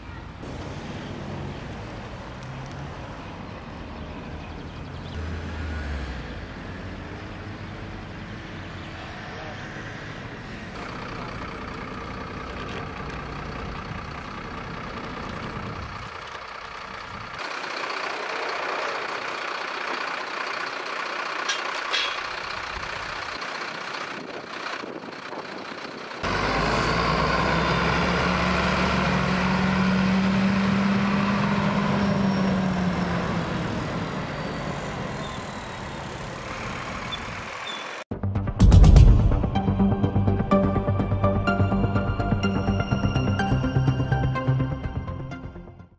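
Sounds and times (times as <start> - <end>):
road traffic passing: 0.0 - 38.1, 39.4 - 45.9
diesel truck engine running: 0.0 - 45.9.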